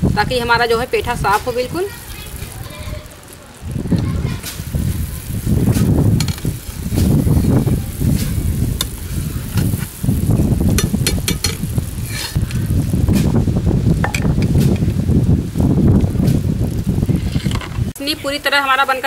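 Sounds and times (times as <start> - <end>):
syrup boiling hard: 0.0 - 18.0
wind rumble on microphone: 0.0 - 18.4.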